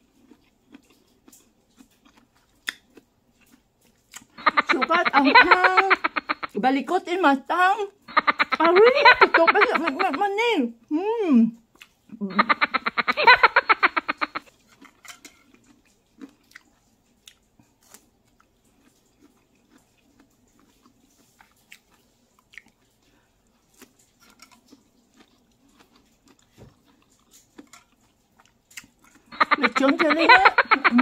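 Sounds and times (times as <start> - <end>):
chewing and lip smacking: 0.0 - 6.6, 11.6 - 31.0.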